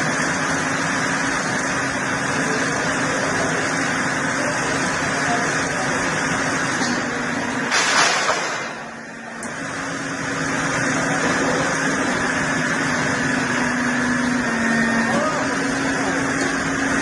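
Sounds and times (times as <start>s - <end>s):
heavy machine engine humming: 0.0s - 17.0s.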